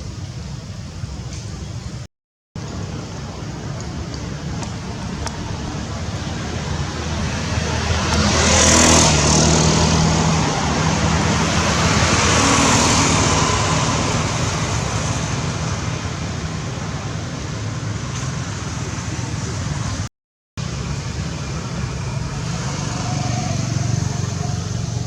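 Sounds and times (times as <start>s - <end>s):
steady traffic hum: 0.0s - 25.0s
vehicle passing by: 2.9s - 25.0s.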